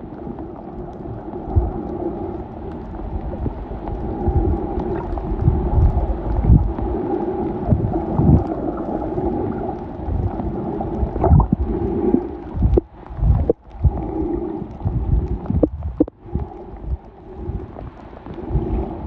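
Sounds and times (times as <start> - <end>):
underwater boat machinery hum: 0.0 - 19.0
water gurgles and thumps: 0.0 - 19.0.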